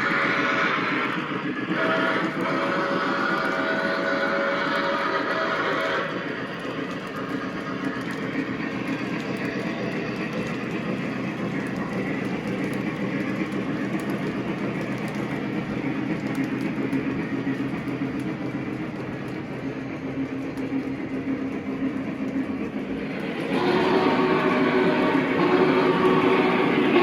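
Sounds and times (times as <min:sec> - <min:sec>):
model train motor and wheels rumbling: 0:00.0 - 0:27.0.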